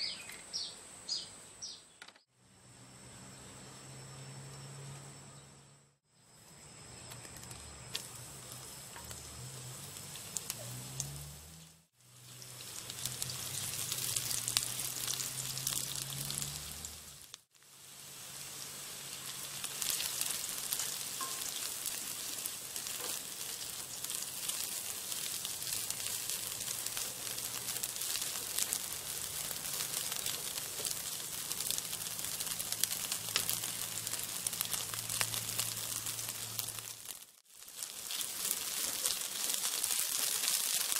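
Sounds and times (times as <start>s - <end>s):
food sizzling in hot oil: 7.2s - 40.9s.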